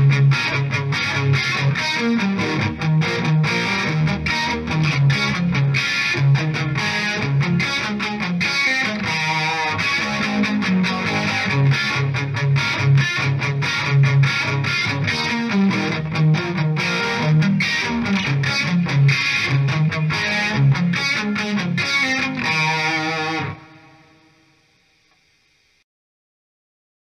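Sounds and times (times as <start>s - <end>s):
distorted electric guitar riff: 0.0s - 25.8s.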